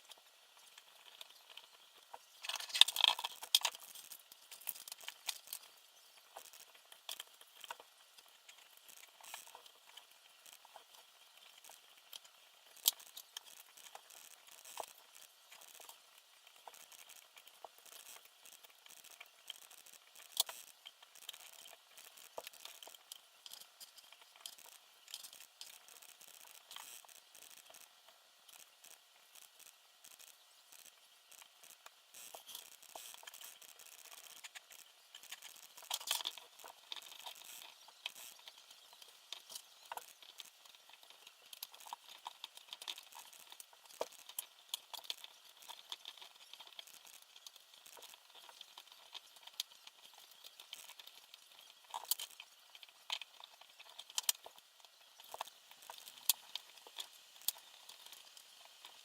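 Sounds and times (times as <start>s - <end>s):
small hard parts clicking and rattling: 0.0s - 59.0s
steady hiss: 0.0s - 59.0s.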